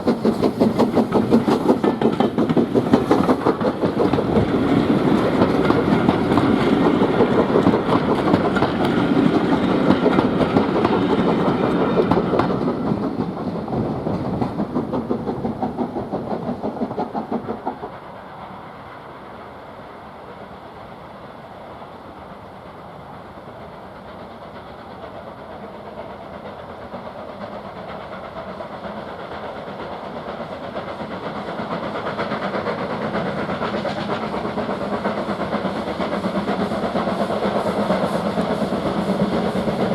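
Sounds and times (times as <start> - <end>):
quieter train sound: 0.0 - 39.9
steam train passing: 0.0 - 39.9.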